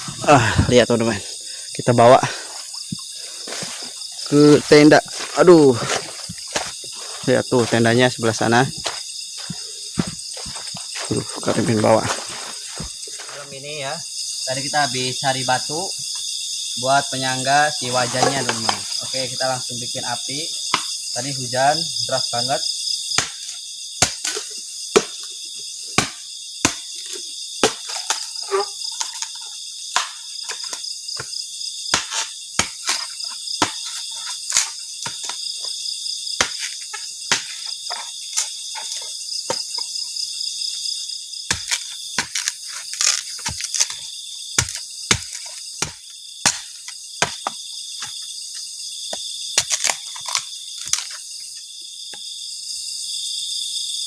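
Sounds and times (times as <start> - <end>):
insect chorus: 0.0 - 54.0.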